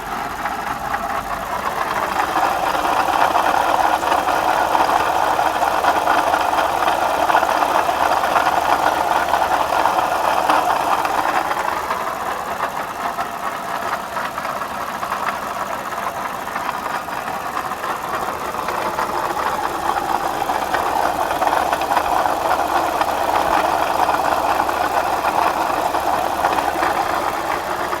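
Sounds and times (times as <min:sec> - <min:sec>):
car engine running: 0:00.0 - 0:28.0
water pump rattling: 0:01.6 - 0:28.0.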